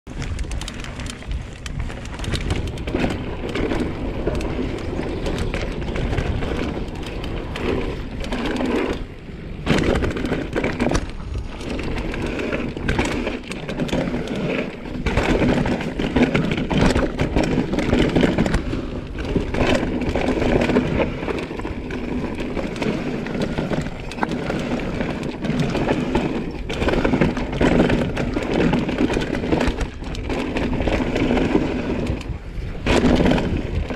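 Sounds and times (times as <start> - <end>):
bike chain and frame rattling: 0.1 - 33.9
bike tyres rumbling over dirt: 0.1 - 33.9.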